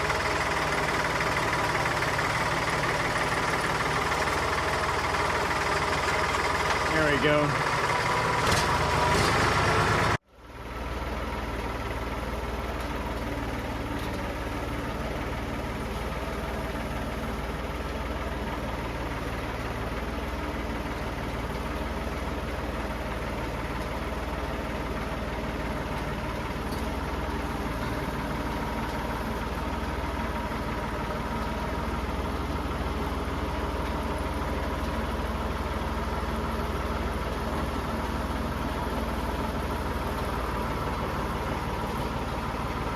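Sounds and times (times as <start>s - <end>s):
tractor engine idling: 0.0s - 42.9s.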